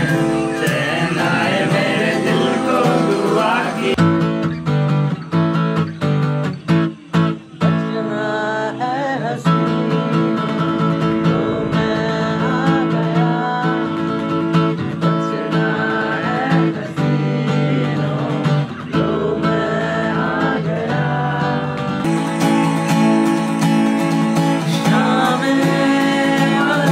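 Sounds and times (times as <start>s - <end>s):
person singing wordless melody: 0.0s - 4.0s, 7.7s - 14.3s, 15.1s - 26.9s
acoustic guitar strumming: 0.0s - 26.9s.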